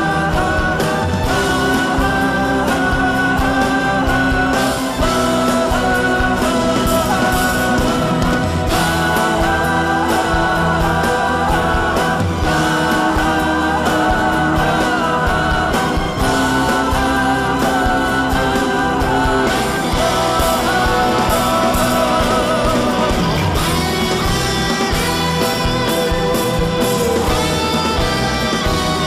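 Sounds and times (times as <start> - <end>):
pop song with guitar: 0.0 - 29.0
sung vocals: 0.0 - 29.0.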